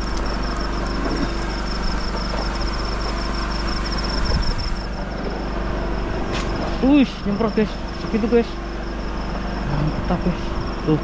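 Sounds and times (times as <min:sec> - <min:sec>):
engine running steadily: 0:00.0 - 0:11.0
high-pitched pulsing: 0:00.0 - 0:11.0.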